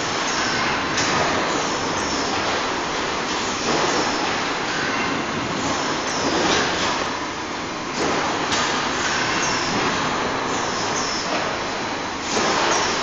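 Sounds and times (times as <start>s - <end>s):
packing line machinery running: 0.0s - 13.0s.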